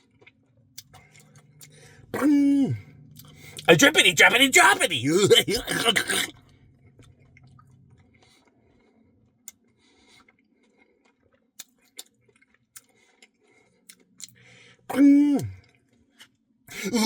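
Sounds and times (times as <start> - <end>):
soft chewing: 0.0 - 2.1, 2.8 - 3.7, 5.5 - 16.4.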